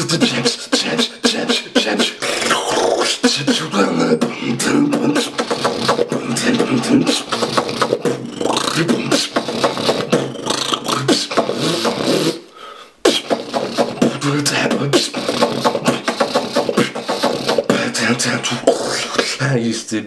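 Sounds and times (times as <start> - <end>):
man beatboxing: 0.0 - 20.0.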